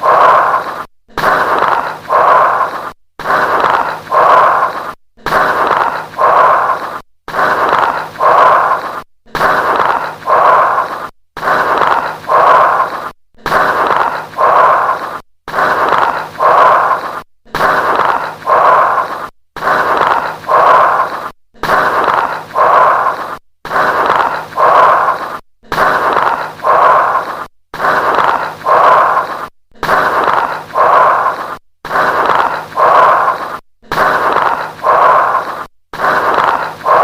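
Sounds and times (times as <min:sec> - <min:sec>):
breath crackles: 0:00.0 - 0:37.0
harsh breathing through stethoscope: 0:00.0 - 0:37.0.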